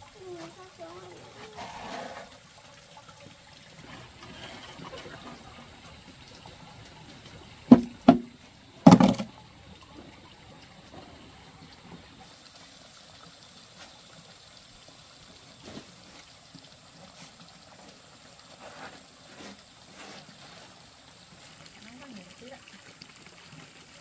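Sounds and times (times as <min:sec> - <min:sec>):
water running and pouring: 0:00.0 - 0:24.0.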